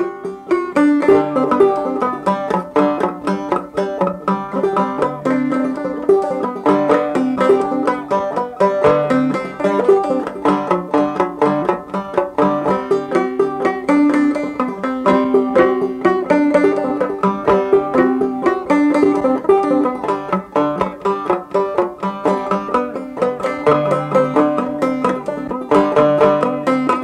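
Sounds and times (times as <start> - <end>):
banjo picking: 0.0 - 27.0.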